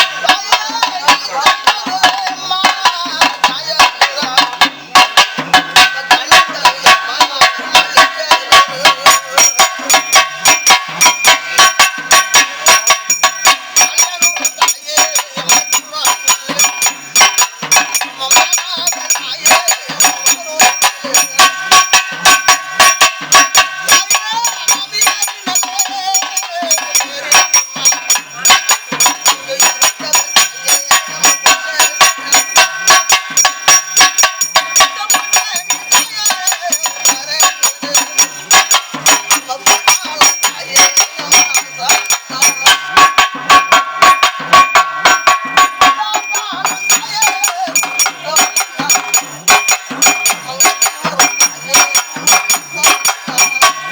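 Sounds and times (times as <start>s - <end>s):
drums beaten with sticks: 0.0s - 53.9s
ringing metallic tones: 0.0s - 53.9s.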